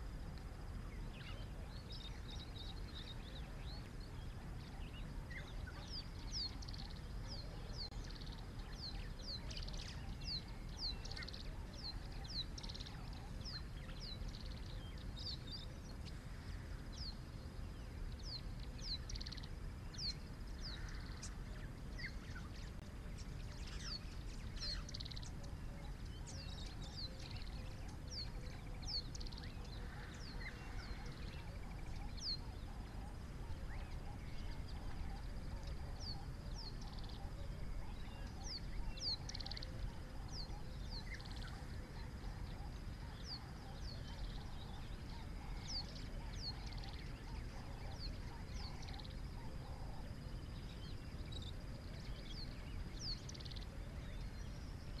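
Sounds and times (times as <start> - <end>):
birds chirping: 0.0 - 55.0
low steady rumble: 0.0 - 55.0.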